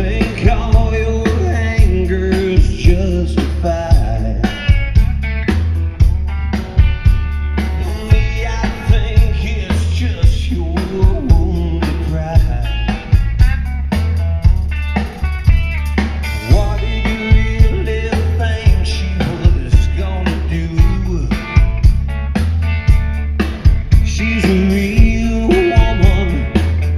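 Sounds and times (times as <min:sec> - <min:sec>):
bending lead guitar notes: 0:00.0 - 0:26.9
drum kit beat: 0:00.0 - 0:26.9
heavy bass line: 0:00.0 - 0:26.9
rock band playing live: 0:00.0 - 0:26.9.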